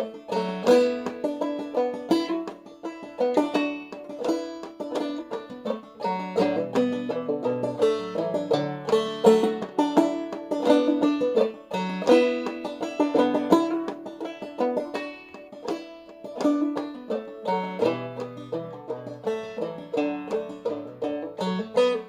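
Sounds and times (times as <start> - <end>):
banjo plucked notes: 0.0 - 22.0.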